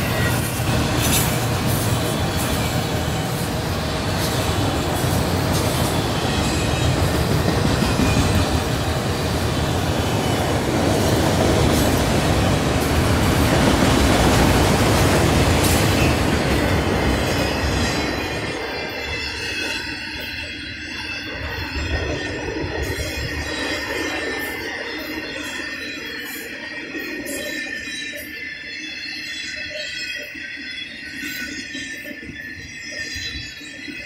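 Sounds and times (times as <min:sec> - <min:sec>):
rail clicks: 0:00.0 - 0:34.0
train wheels rumbling on rails: 0:00.0 - 0:34.0.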